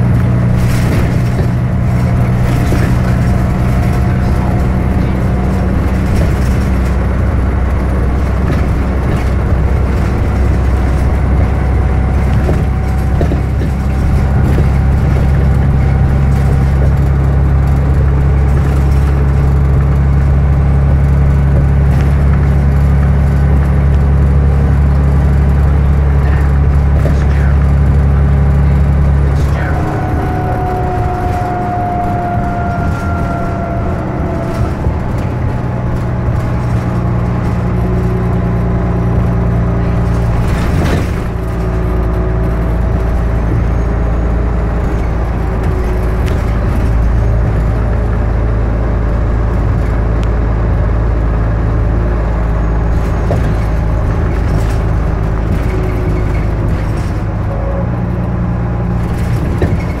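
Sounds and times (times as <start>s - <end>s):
bus engine droning: 0.0s - 60.0s
road noise: 0.0s - 60.0s.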